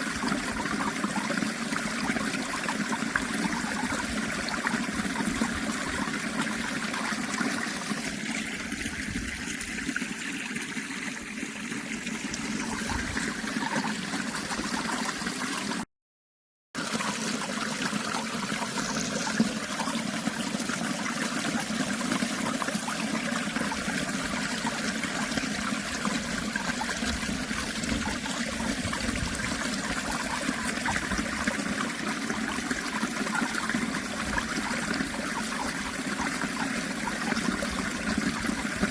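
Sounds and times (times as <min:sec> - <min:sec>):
stream flowing and trickling: 0:00.0 - 0:15.9, 0:16.8 - 0:38.9.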